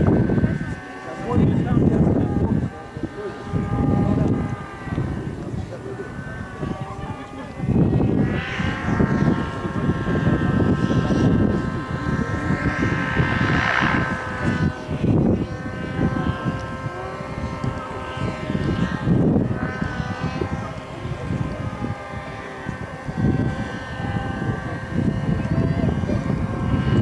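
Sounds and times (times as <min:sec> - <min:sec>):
low irregular rumbling: 0:00.0 - 0:27.0
model airplane engines droning: 0:00.0 - 0:27.0.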